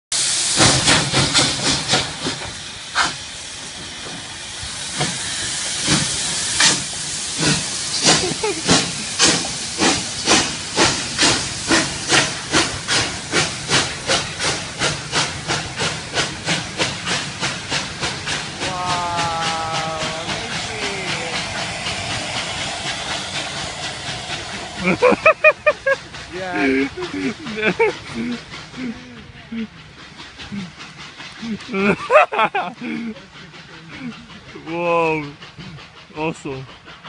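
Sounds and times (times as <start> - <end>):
steam hissing: 0.1 - 37.0
steam locomotive chuffing: 0.1 - 37.0.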